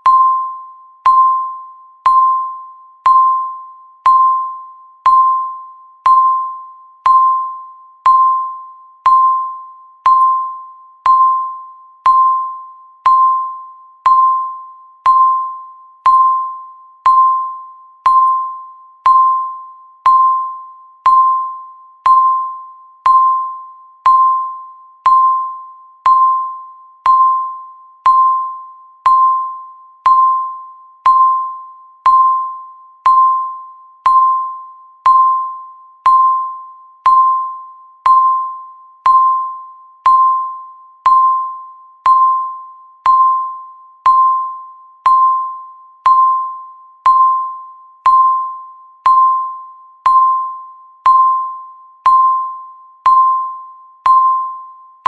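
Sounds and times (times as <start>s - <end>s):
electronic timer tick chime: 0.0s - 55.0s.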